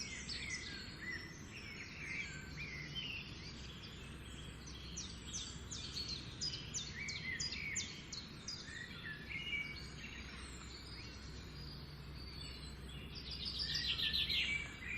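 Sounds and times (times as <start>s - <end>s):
songbirds singing: 0.0s - 14.9s.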